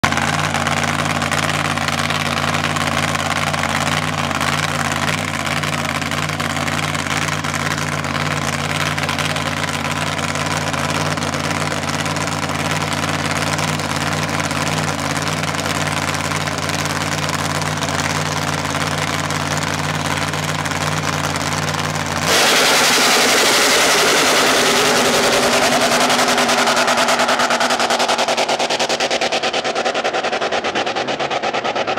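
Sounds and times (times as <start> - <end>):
car engine idling: 0.0 - 31.9
car engine revving: 0.0 - 31.9.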